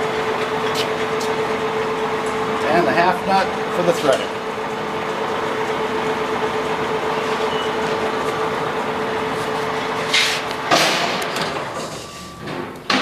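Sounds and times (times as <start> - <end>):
lathe running: 0.0 - 12.9
noisy mechanical clatter: 0.0 - 13.0.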